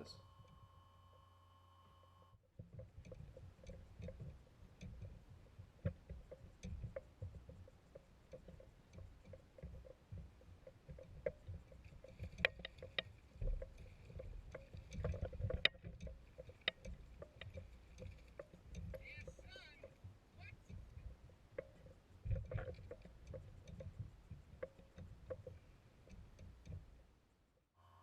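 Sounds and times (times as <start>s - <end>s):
water lapping against kayak hull: 2.6s - 27.2s.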